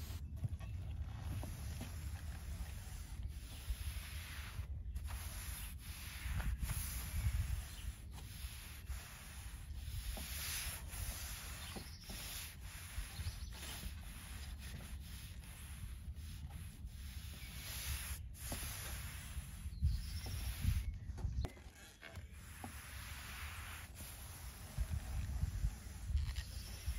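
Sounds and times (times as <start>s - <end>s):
deck brush scrubbing boards: 0.0s - 20.9s, 22.2s - 26.9s.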